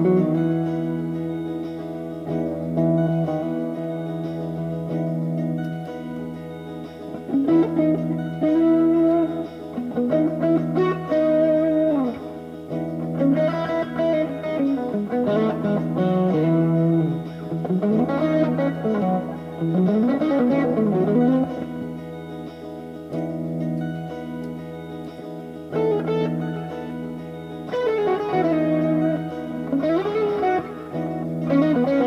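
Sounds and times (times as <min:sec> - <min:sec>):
electric guitar melody with bent notes: 0:00.0 - 0:32.0.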